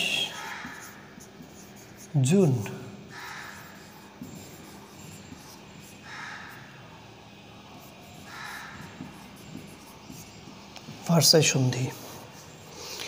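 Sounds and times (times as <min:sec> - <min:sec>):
marker scratching on whiteboard: 0:00.0 - 0:13.0.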